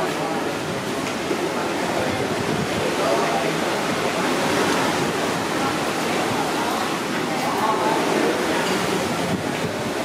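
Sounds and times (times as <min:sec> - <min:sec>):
hubbub of people talking: 0:00.0 - 0:10.0.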